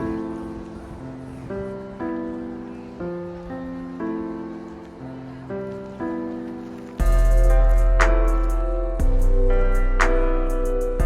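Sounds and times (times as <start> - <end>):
soft held chords music: 0.0 - 11.0.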